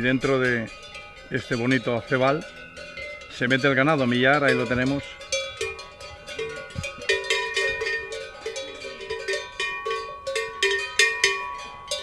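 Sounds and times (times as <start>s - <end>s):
cowbells clanking: 0.0s - 12.0s.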